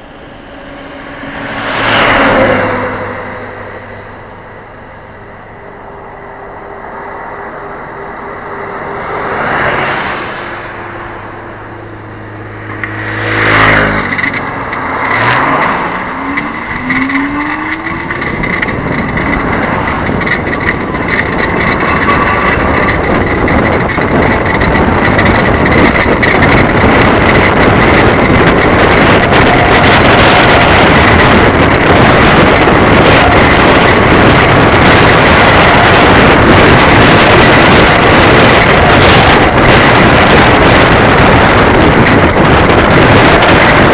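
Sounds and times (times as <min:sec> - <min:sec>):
wind noise on microphone: 0:00.0 - 0:43.9
motorcycle engine passing: 0:00.3 - 0:04.4, 0:07.3 - 0:42.3.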